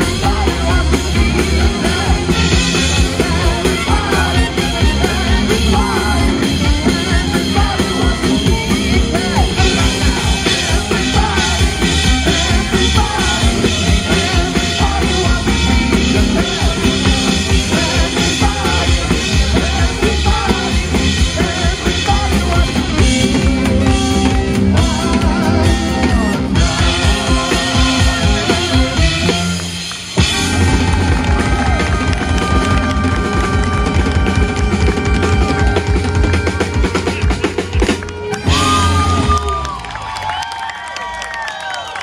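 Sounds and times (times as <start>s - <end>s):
drum kit: 0.0s - 40.6s
live band playing: 0.0s - 42.0s.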